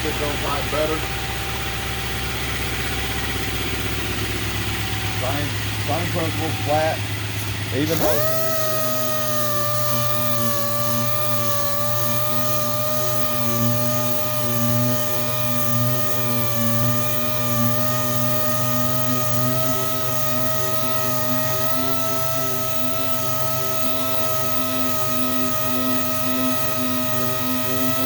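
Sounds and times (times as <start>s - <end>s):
orbital sander whining: 0.0s - 28.0s.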